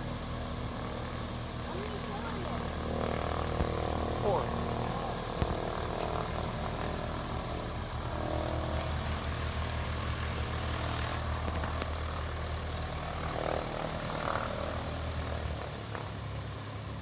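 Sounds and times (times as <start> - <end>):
small plane engine and propeller: 0.0 - 17.0.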